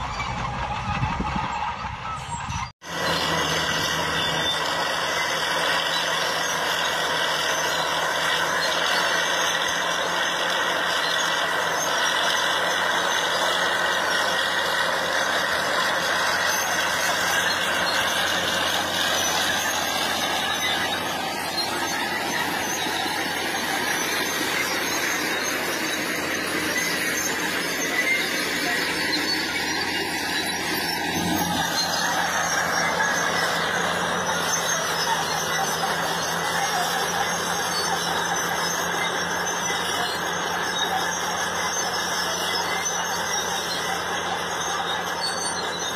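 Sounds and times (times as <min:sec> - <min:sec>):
diesel engine under load: 0:00.0 - 0:45.9
high squeal from tracks: 0:00.0 - 0:45.9.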